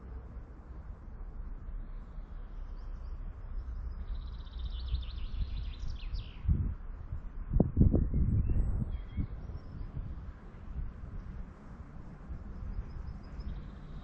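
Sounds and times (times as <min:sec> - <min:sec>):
low outdoor rumble: 0:00.0 - 0:14.0
songbird singing: 0:01.6 - 0:06.7, 0:07.8 - 0:14.0.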